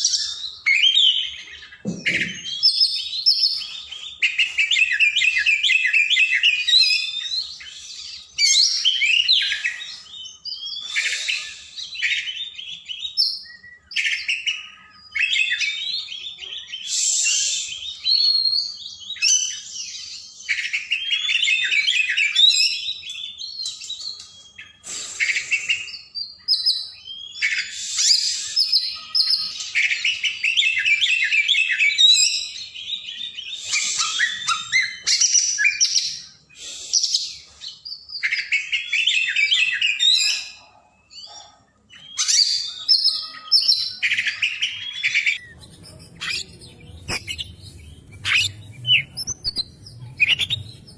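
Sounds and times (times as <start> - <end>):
bird singing whistles and chirps: 0.0 - 50.9.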